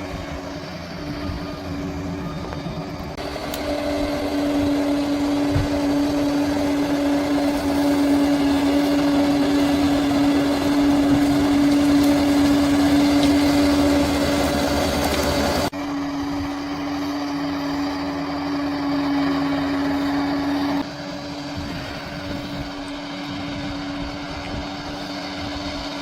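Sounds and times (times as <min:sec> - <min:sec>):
bulldozer diesel engine: 0:00.0 - 0:26.0
constant hum: 0:00.0 - 0:26.0.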